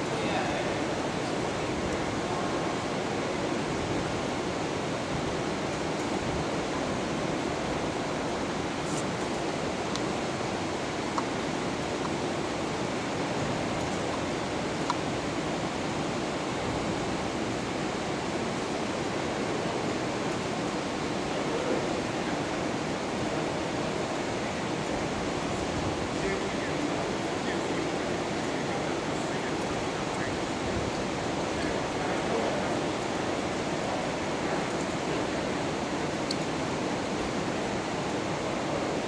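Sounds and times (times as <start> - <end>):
rushing room noise of large hall: 0.0 - 39.0.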